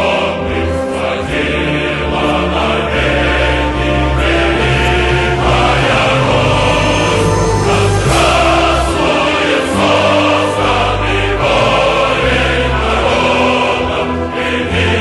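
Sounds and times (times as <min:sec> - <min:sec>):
choir holding chords: 0:00.0 - 0:15.0.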